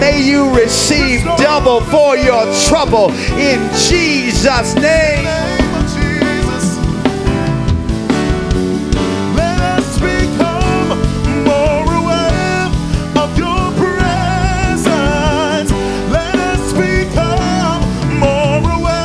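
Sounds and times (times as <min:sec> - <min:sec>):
band with drums: 0:00.0 - 0:19.0.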